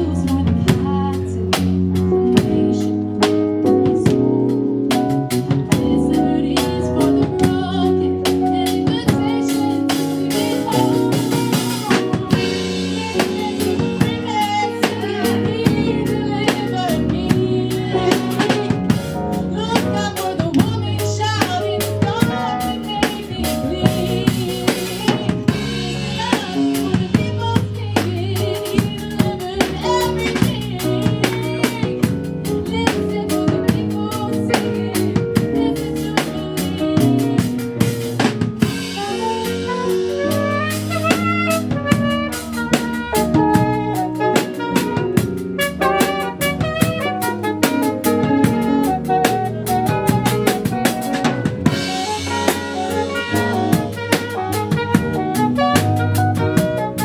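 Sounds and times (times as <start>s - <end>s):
drum kit beat: 0.0s - 57.0s
gospel band playing: 0.0s - 57.0s.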